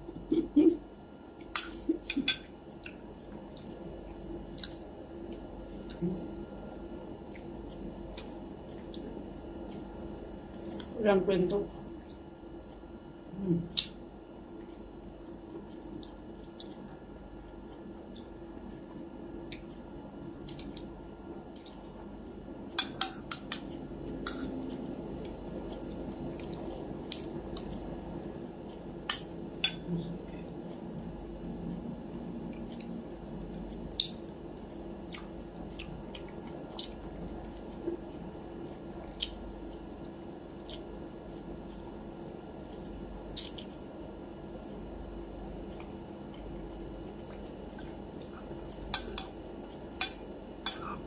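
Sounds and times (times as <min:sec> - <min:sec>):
soft chewing: 0:00.1 - 0:51.0.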